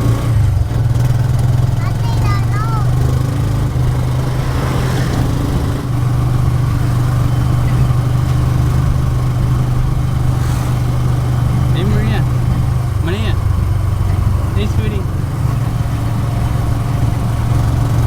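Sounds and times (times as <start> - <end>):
motorcycle engine humming: 0.0 - 18.0.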